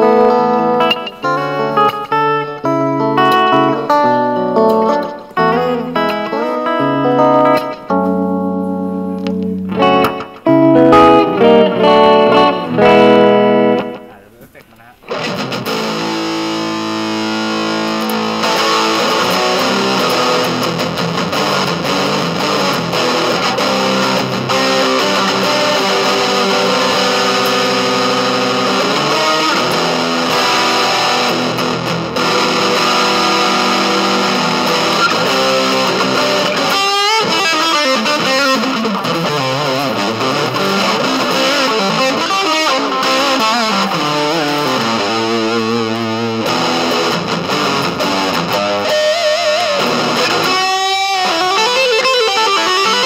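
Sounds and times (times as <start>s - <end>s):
distorted electric guitar: 0.0s - 53.0s.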